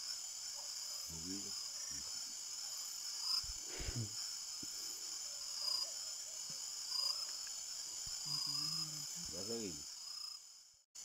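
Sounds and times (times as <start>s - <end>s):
chorus of night insects: 0.0s - 11.0s.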